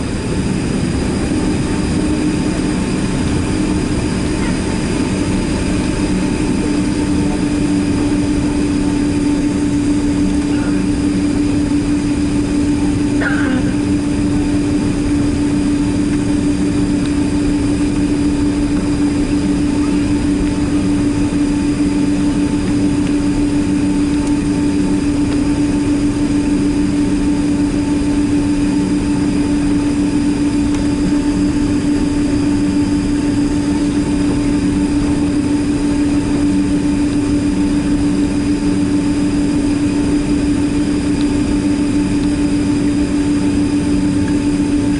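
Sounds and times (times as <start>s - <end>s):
jet engine cabin drone: 0.0s - 44.9s.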